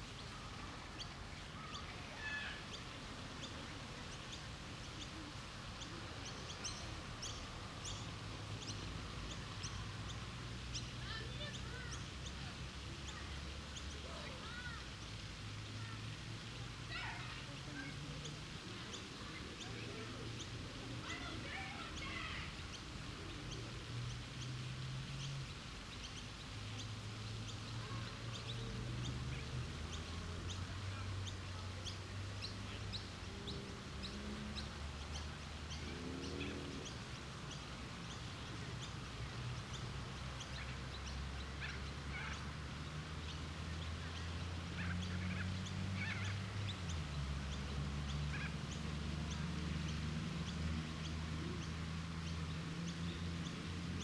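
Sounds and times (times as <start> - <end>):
fountain water splashing: 0.0 - 54.0
small birds chirping: 0.0 - 54.0.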